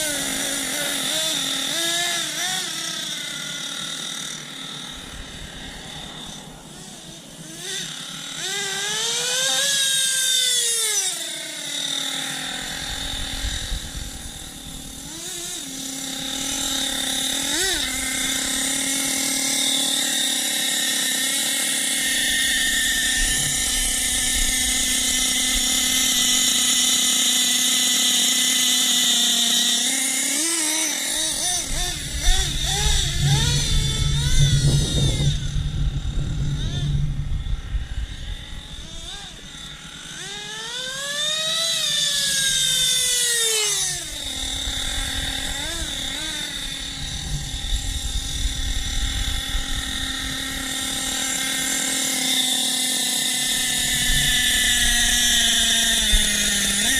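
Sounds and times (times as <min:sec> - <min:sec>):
small two-stroke engine revving: 0:00.0 - 0:56.9.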